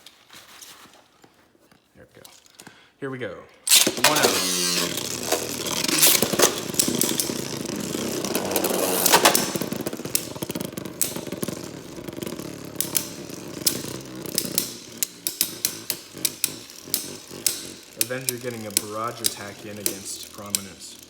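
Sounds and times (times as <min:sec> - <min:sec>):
hard impact of tops: 0:03.7 - 0:21.0
spinning tops whirring and clashing: 0:03.7 - 0:21.0.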